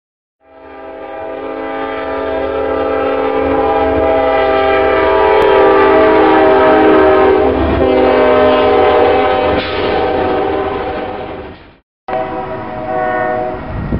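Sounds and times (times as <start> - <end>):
locomotive air horn chord: 0.4 - 11.5, 12.1 - 13.9.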